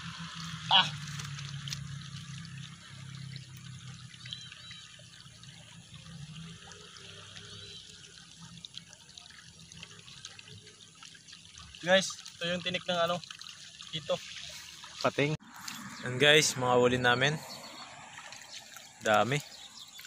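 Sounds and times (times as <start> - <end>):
river water trickling: 0.0 - 20.0.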